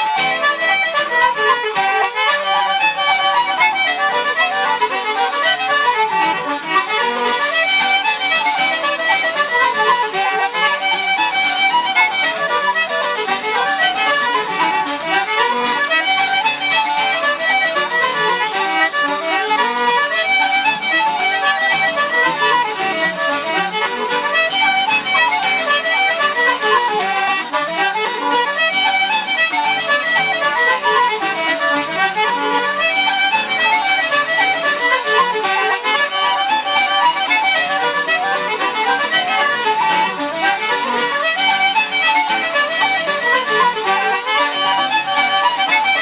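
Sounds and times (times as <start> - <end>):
fiddle melody: 0.0 - 46.0
traditional band playing fast reel: 0.0 - 46.0.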